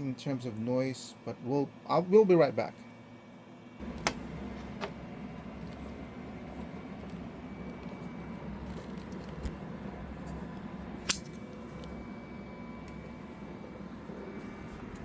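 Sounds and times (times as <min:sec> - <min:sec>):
printer mechanical hum and whine: 0:00.0 - 0:15.0.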